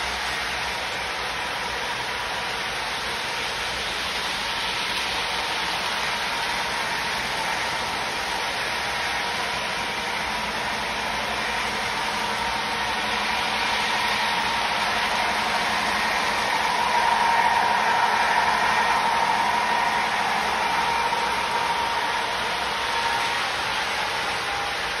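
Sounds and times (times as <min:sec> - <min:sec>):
model train rolling on track: 0:00.0 - 0:25.0.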